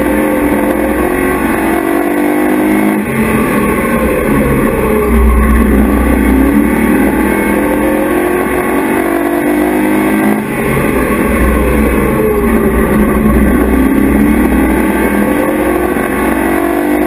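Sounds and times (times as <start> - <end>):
race truck engine revving: 0.0 - 17.0.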